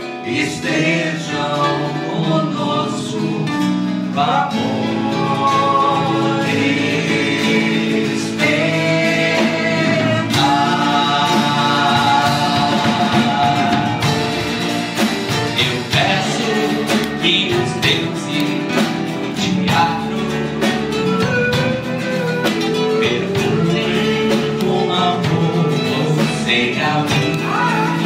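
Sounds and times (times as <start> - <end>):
strummed acoustic guitars: 0.0 - 28.0
voices singing: 0.0 - 28.0.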